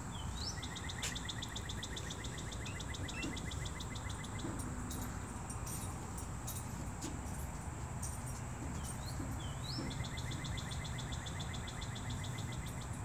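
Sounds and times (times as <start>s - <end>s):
crickets trilling: 0.1s - 13.0s.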